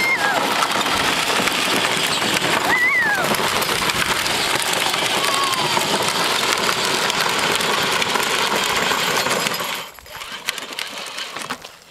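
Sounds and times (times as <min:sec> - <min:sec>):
plastic wheels crunching on gravel: 0:00.0 - 0:11.9.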